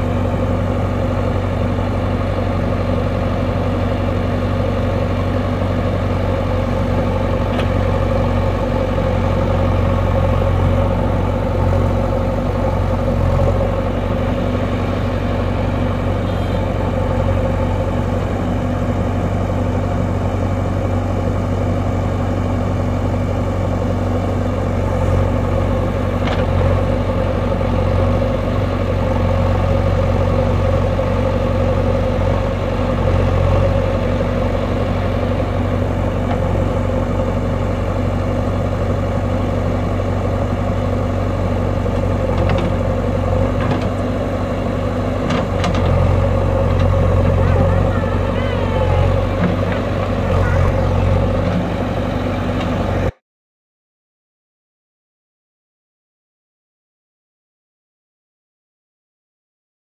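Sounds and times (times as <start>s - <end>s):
diesel engine running under load: 0.0s - 53.2s.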